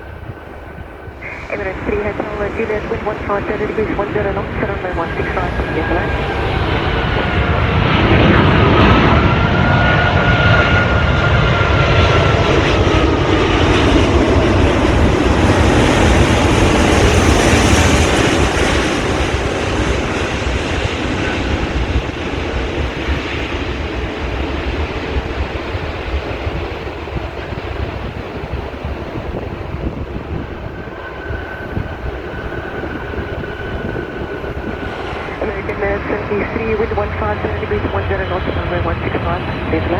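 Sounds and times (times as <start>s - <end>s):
jet airliner engines: 0.0s - 39.9s
thin engine whine: 0.0s - 39.9s.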